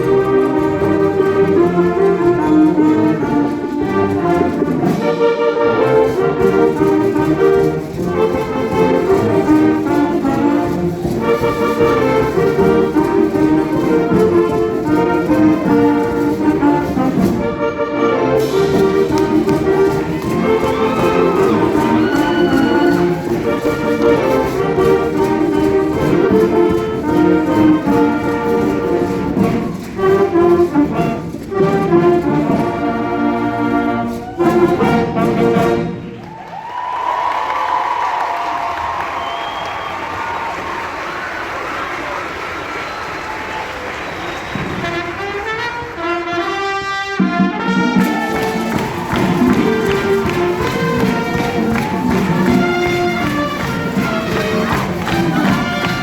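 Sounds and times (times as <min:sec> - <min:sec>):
wind band playing: 0:00.0 - 0:56.0.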